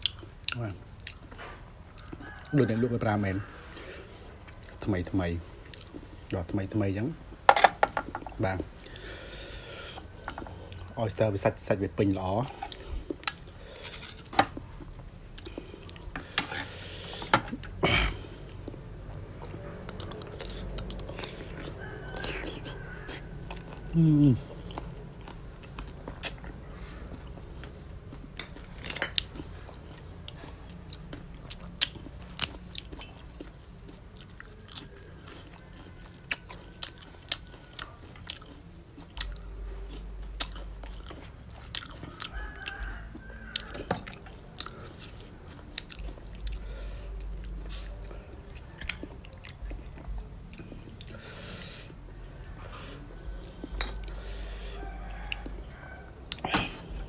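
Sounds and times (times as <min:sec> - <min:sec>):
wet chewing and smacks: 0:00.0 - 0:02.6, 0:04.4 - 0:06.6, 0:12.1 - 0:17.8, 0:18.5 - 0:51.2, 0:53.1 - 0:57.0.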